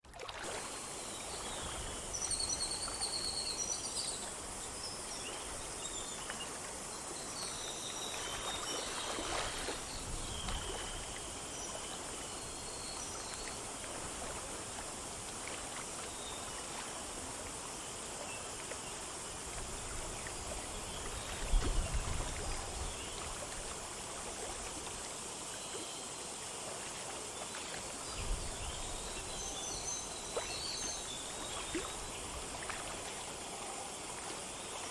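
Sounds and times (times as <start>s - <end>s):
stream flowing over stones: 0.0s - 34.9s.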